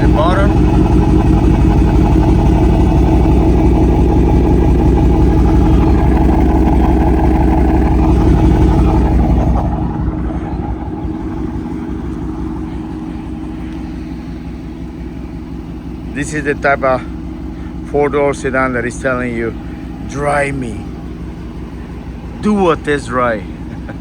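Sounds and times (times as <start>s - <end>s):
car engine idling with deep burble: 0.0s - 24.0s.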